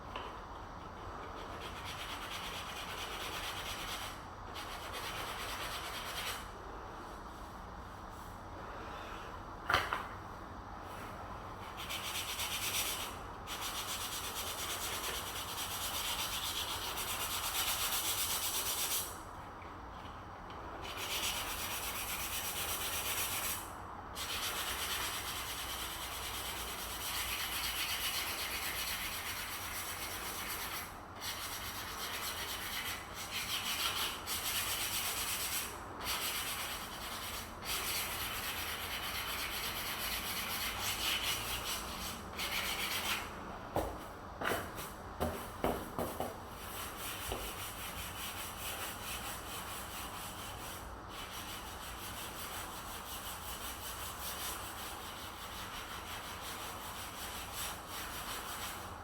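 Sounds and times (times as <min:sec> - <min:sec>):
sanding rubbing: 0:01.0 - 0:06.5, 0:11.6 - 0:19.2, 0:20.8 - 0:43.3, 0:46.5 - 0:59.0.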